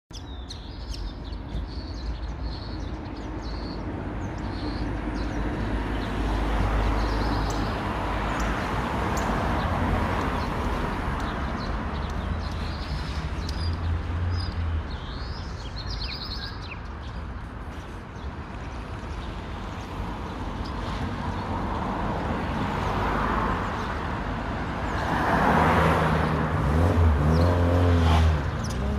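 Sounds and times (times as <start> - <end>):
cars passing by: 0.1 - 28.9
small birds chirping: 0.1 - 28.9.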